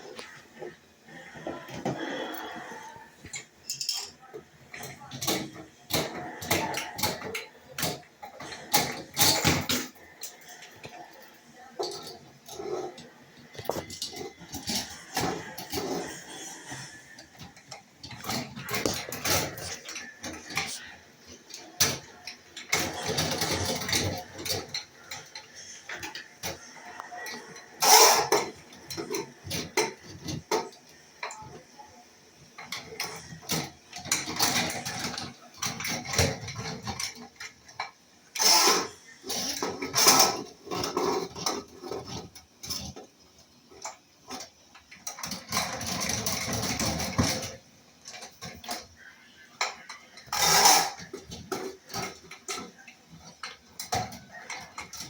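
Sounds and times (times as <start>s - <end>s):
tools and pipes clattering: 0.0s - 31.7s, 32.4s - 55.0s.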